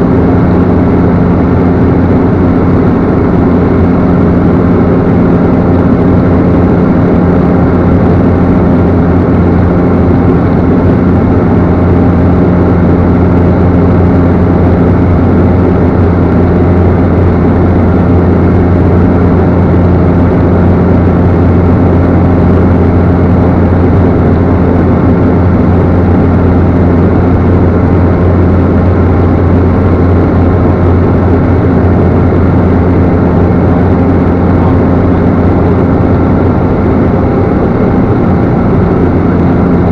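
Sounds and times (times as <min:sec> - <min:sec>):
turboprop engine drone: 0:00.0 - 0:39.9.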